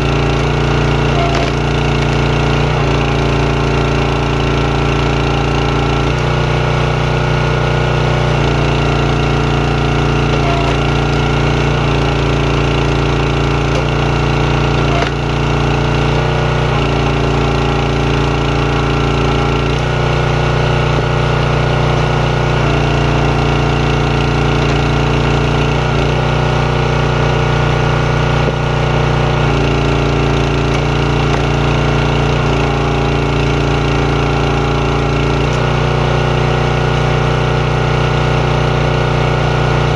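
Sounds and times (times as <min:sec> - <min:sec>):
log splitter engine running: 0:00.0 - 0:39.9.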